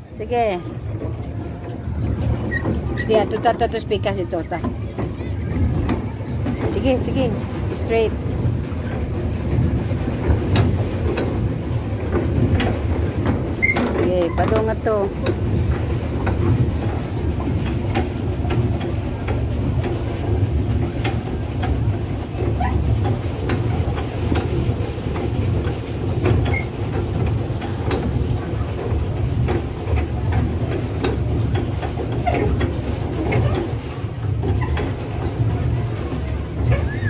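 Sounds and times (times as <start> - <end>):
paddle boat low rumble: 0.0 - 37.0.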